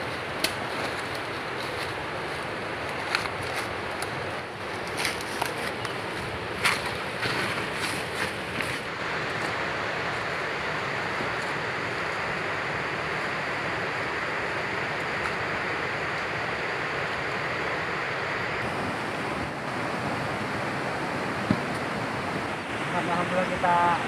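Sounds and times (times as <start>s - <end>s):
river flowing: 0.0s - 24.0s.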